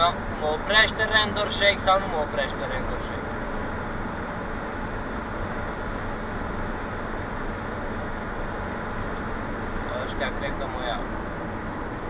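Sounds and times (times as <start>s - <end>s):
lorry engine and road noise: 0.0s - 12.0s.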